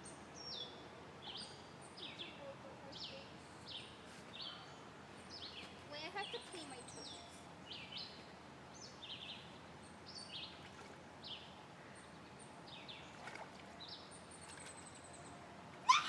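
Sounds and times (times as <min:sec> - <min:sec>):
birds chirping softly: 0:00.0 - 0:16.0
faint outdoor background: 0:00.0 - 0:16.0.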